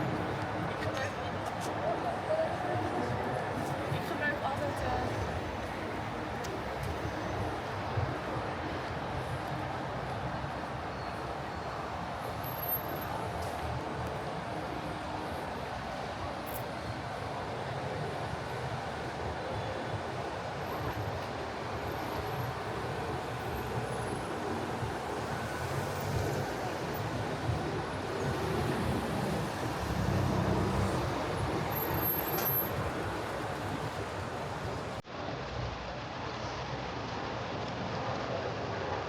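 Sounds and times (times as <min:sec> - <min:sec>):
traffic rumble: 0:00.0 - 0:35.0.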